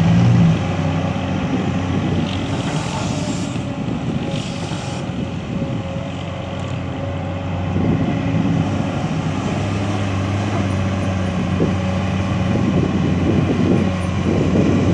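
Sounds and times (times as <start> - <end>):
excavator diesel engine: 0.0 - 14.9.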